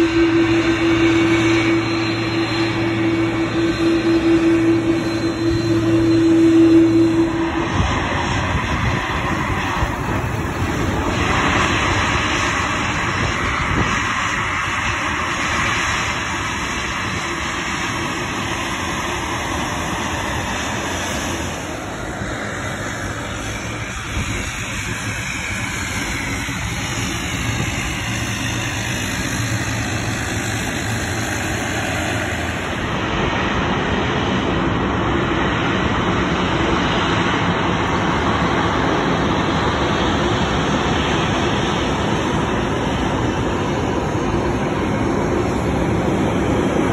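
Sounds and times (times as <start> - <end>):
jet engines rushing: 0.0 - 46.9.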